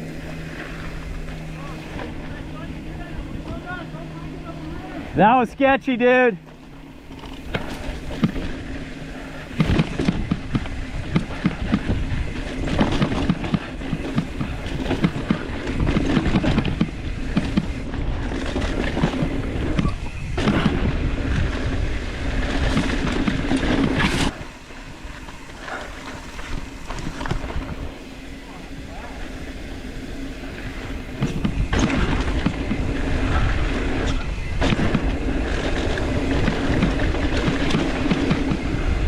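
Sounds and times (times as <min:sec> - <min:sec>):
bike tyres crunching over rocks: 0:06.0 - 0:39.0
bike rattling and knocking: 0:06.4 - 0:39.0.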